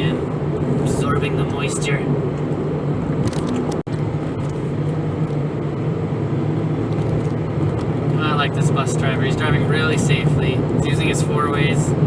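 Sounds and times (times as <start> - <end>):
road and engine noise in van: 0.0 - 12.0.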